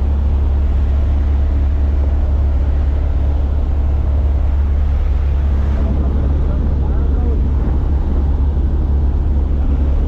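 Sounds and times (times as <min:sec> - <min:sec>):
propeller plane engine droning: 0:00.0 - 0:10.0.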